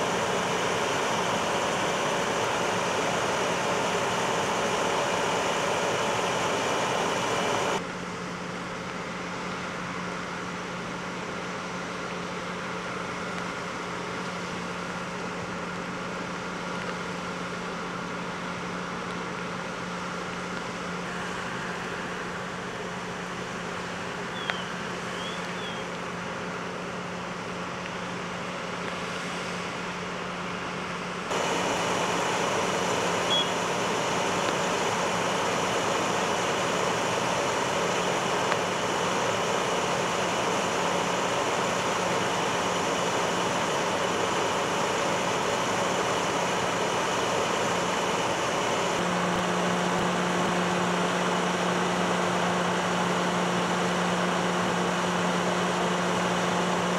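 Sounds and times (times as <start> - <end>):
fire truck engines idling: 0.0 - 56.9.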